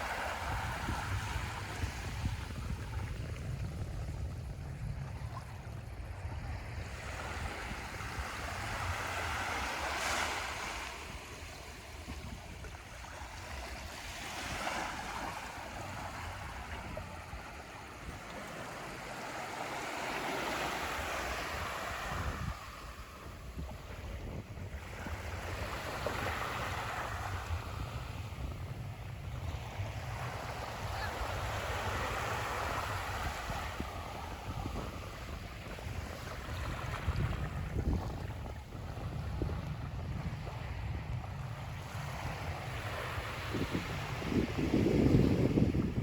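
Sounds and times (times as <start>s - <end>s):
small waves washing onto sand: 0.0s - 46.0s
wind rumble on microphone: 0.0s - 46.0s.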